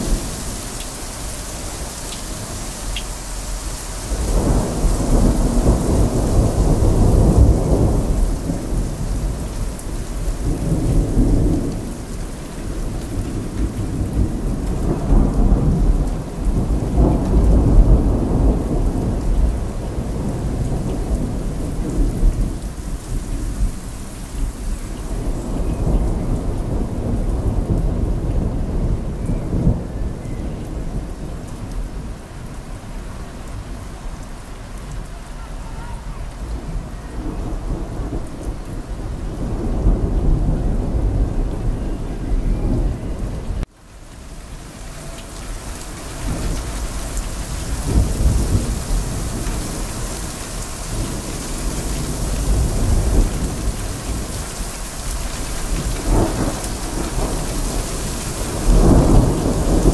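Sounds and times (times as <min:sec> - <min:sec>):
thunder rumbling: 0:00.0 - 0:43.7, 0:44.7 - 0:59.9
heavy rain: 0:00.0 - 0:59.9.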